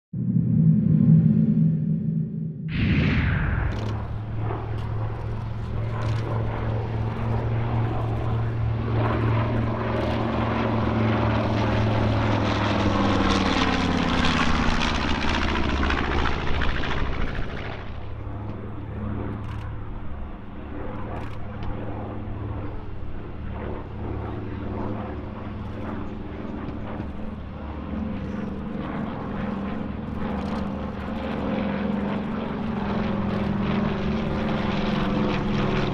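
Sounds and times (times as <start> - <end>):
propeller plane engines passing: 0.2 - 35.9.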